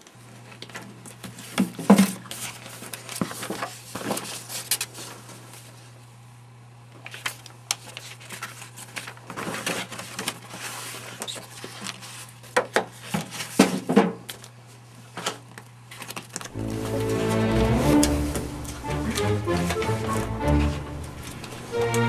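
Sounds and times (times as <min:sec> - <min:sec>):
paper rustling and shuffling: 0:00.3 - 0:06.0, 0:07.0 - 0:22.0.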